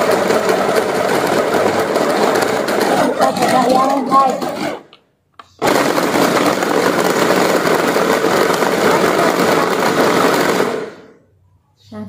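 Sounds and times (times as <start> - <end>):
blender motor chopping meat: 0.0 - 4.9, 5.6 - 11.1.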